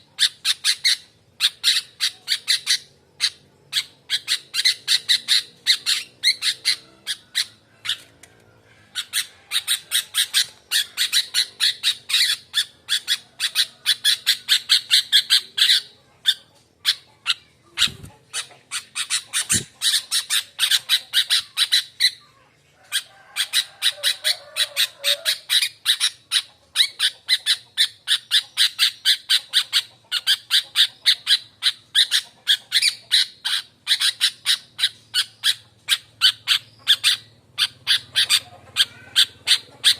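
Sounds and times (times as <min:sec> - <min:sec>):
bird chattering call: 0:00.1 - 0:39.9.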